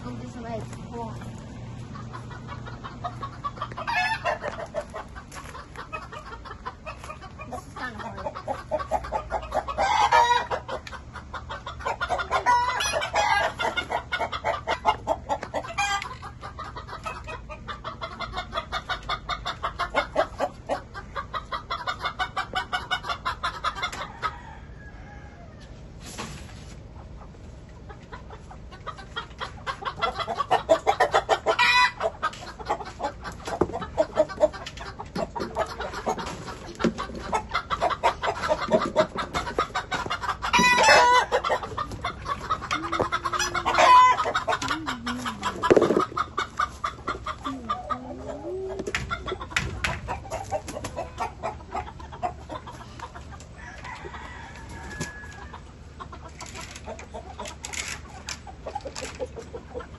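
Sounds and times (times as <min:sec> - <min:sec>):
hens clucking: 0:00.0 - 0:59.9
hens squawking loudly: 0:01.9 - 0:24.0, 0:28.2 - 0:56.2.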